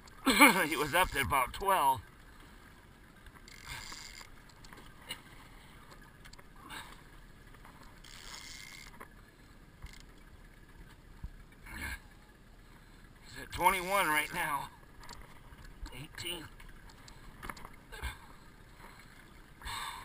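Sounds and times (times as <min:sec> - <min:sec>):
faint wind: 0:00.0 - 0:20.0
water noise around boat: 0:00.0 - 0:20.0.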